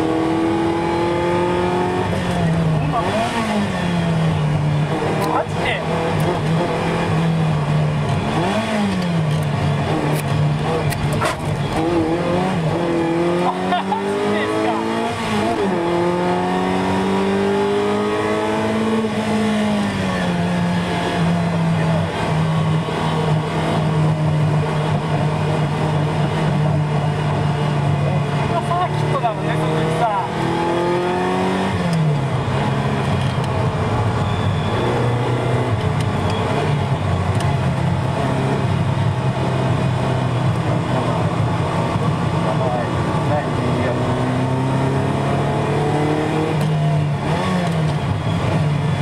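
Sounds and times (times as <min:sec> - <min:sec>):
car engine revving: 0:00.0 - 0:49.0
road and wind noise: 0:00.0 - 0:49.0.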